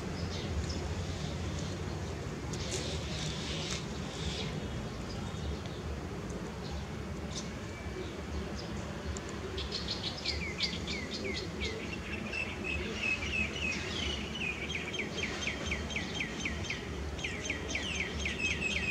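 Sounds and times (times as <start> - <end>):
low steady background noise: 0.0 - 18.9.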